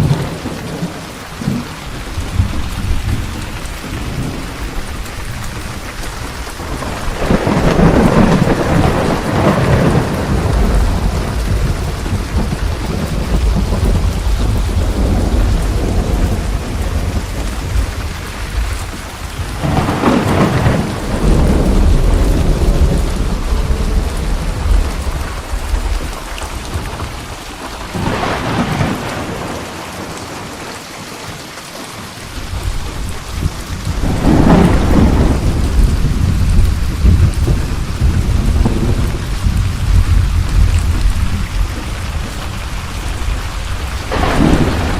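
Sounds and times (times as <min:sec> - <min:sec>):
rolling thunder: 0:00.0 - 0:30.6, 0:32.3 - 0:44.9
heavy rain: 0:00.0 - 0:44.9.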